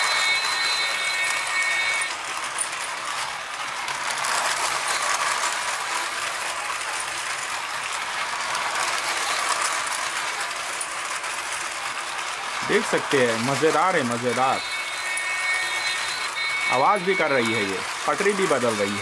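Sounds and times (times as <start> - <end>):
toy train motor whirring: 0.0 - 19.0
wheels rattling on plastic track: 0.0 - 19.0.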